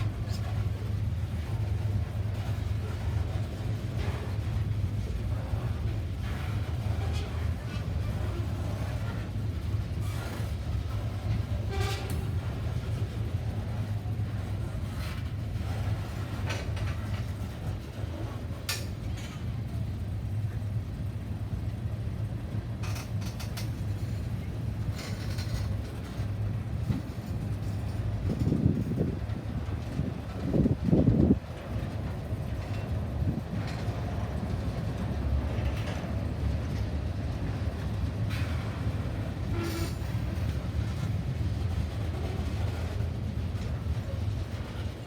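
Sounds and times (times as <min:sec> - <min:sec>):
train rumbling past: 0:00.0 - 0:45.0
wheels clicking on rails: 0:00.0 - 0:45.0.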